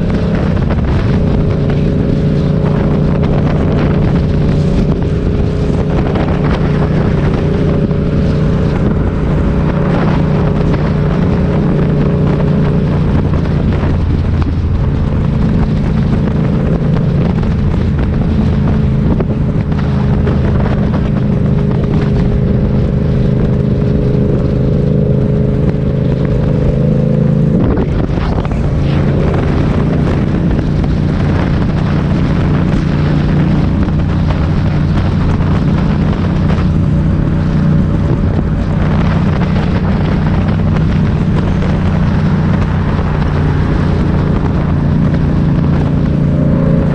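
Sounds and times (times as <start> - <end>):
motorcycle engine running: 0.0 - 46.9
wind noise on microphone: 0.0 - 46.9.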